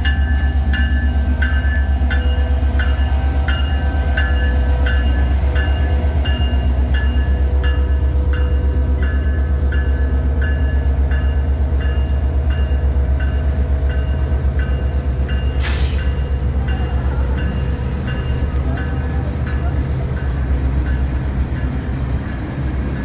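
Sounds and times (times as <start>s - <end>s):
diesel locomotive drone: 0.0s - 23.0s
railway bell ringing: 0.0s - 23.0s.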